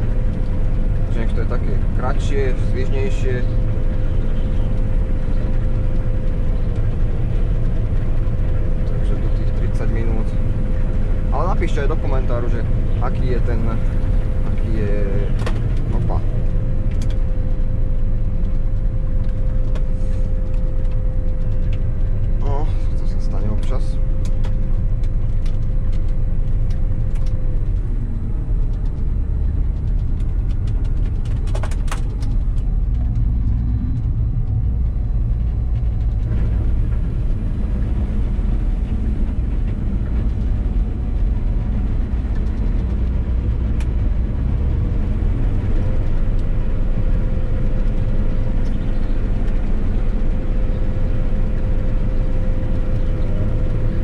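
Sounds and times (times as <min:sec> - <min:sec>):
combine harvester engine rumble: 0:00.0 - 0:54.0
steady machine whine: 0:00.0 - 0:54.0.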